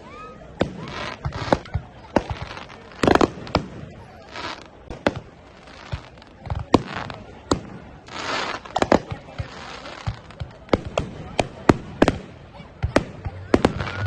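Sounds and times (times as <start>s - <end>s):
fireworks bangs: 0.1s - 14.0s
fireworks crackling hiss: 0.5s - 14.0s.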